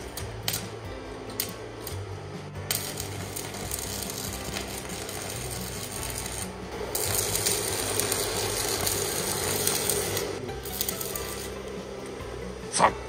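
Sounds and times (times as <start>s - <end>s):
welding arc crackling: 0.0s - 13.0s.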